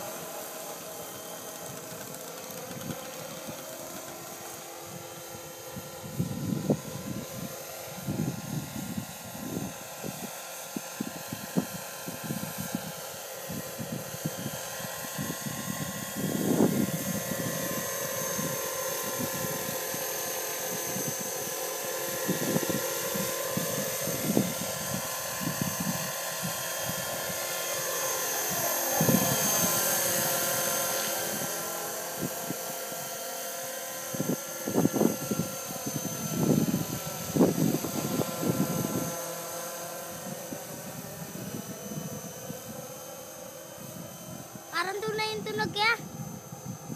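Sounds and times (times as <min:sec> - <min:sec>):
model helicopter whine: 0:00.0 - 0:46.9.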